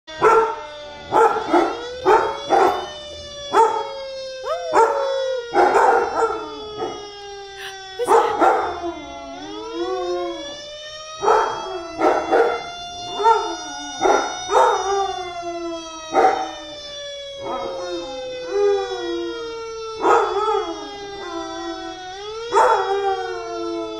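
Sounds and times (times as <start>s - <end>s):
fire truck siren wailing: 0.1s - 23.9s.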